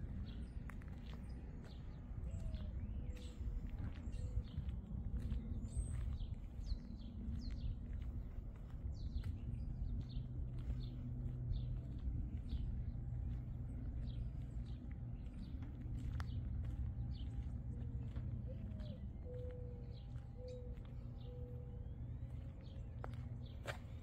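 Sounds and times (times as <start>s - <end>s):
small birds chirping: 0.0s - 24.0s
steady low rumble: 0.0s - 24.0s.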